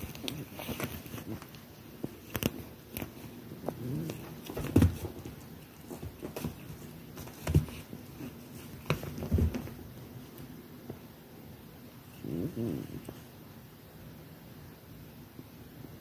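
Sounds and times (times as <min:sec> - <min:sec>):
cat rustling bedspread: 0:00.0 - 0:13.6.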